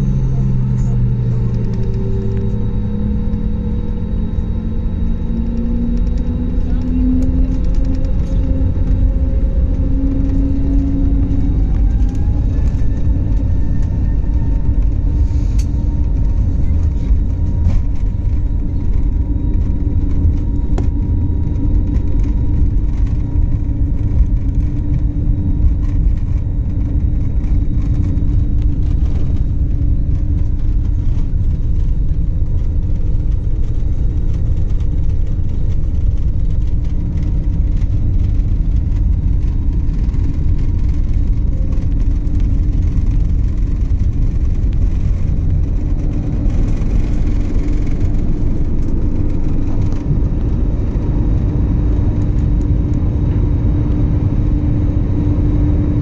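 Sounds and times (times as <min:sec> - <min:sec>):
jet airliner cabin rumble: 0:00.0 - 0:56.0
jet engine whine: 0:00.0 - 0:56.0.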